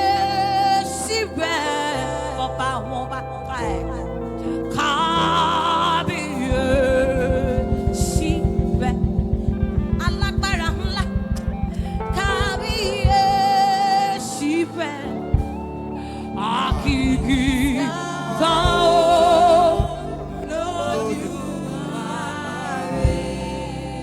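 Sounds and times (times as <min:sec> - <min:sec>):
person singing with vibrato: 0:00.0 - 0:24.0
sustained instrumental backing: 0:00.0 - 0:24.0.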